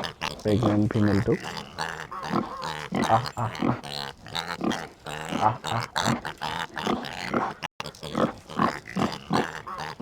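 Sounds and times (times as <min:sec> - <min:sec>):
pig grunting: 0:00.0 - 0:10.0.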